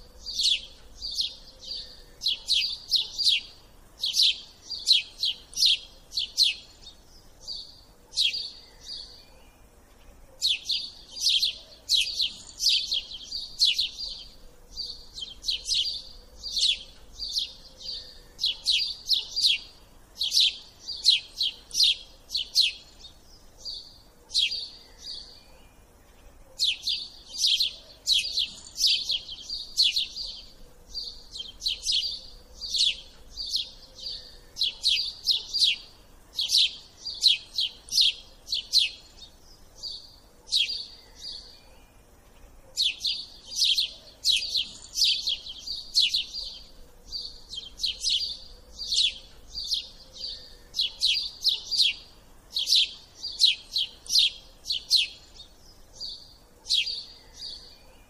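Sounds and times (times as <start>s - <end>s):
small bird chirping rapidly: 0.0s - 9.2s, 10.0s - 25.4s, 26.0s - 58.0s.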